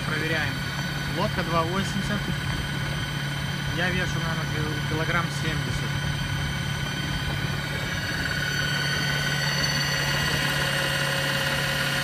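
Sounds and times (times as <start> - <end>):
electric outboard motor humming: 0.0 - 12.0
high whining tones: 0.0 - 12.0.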